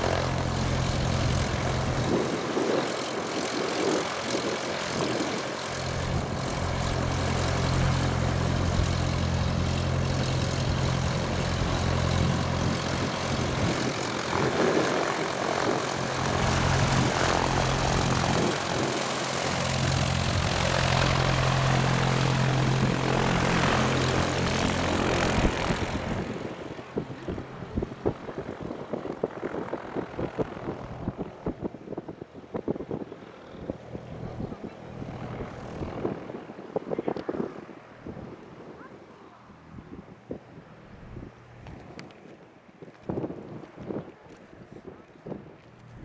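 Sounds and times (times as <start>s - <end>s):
propeller airplane engine taxiing: 0.0s - 42.4s.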